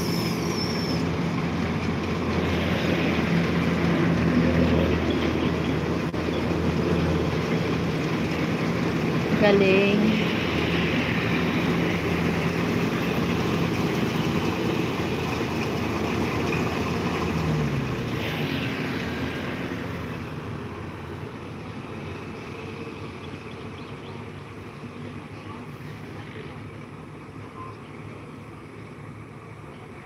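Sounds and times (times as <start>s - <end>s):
combine harvester engine: 0.0s - 30.0s
highway traffic: 0.0s - 30.0s.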